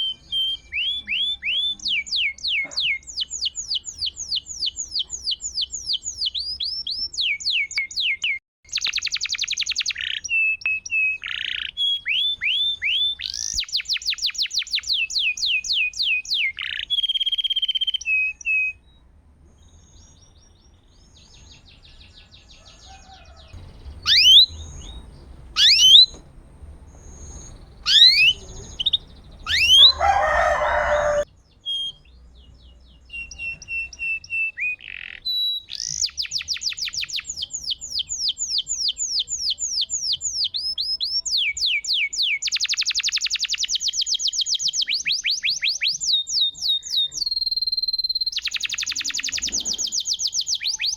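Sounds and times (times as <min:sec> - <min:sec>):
canary singing trills: 0:00.0 - 0:19.0, 0:19.6 - 0:50.9.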